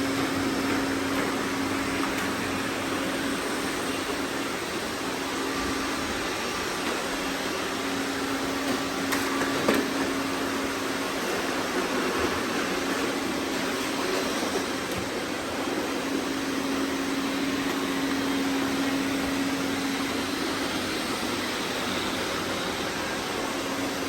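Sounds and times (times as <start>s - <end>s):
robot vacuum whirring hum: 0.0s - 24.0s.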